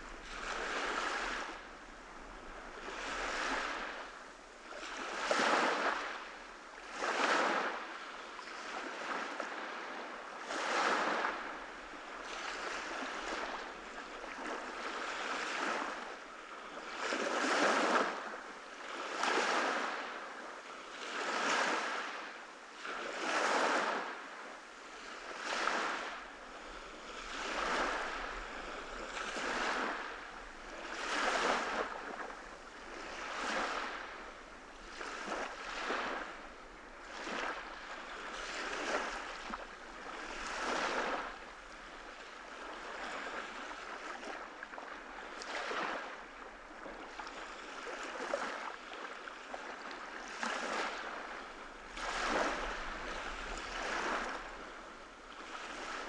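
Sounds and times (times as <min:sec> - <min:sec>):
small waves washing onto beach: 0:00.0 - 0:56.0.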